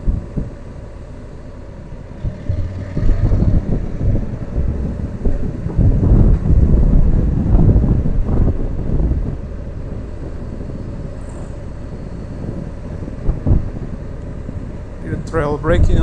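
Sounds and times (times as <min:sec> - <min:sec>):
wind buffeting microphone: 0:00.0 - 0:16.0
motorcycle rumble: 0:01.7 - 0:16.0.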